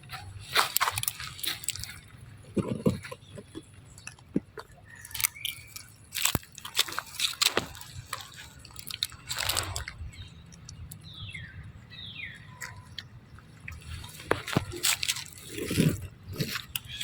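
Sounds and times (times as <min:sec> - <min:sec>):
monkey chewing and smacking: 0:00.0 - 0:17.0
sharp wet clicks: 0:00.1 - 0:02.2, 0:03.6 - 0:17.0.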